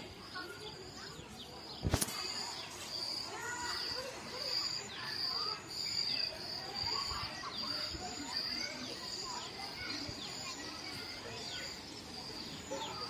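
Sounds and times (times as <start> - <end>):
faint distant voices: 0.0 - 13.0
insect chirping: 1.8 - 13.0.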